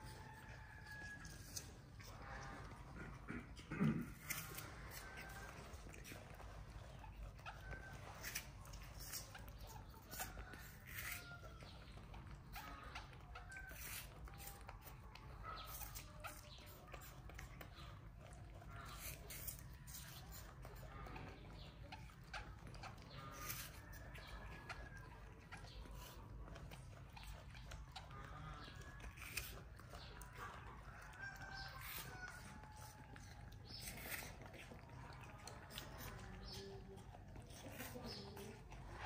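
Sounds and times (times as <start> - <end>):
monkey chewing apple: 0.0 - 39.0.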